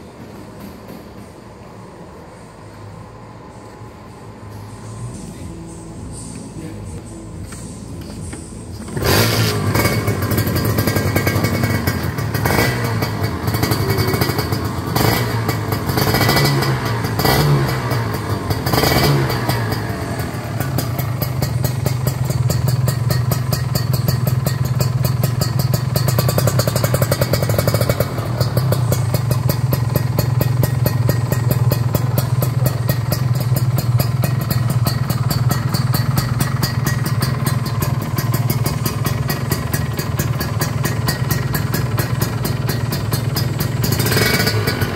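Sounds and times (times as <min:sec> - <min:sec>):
motorcycle engine revving and idling: 0:06.7 - 0:44.9.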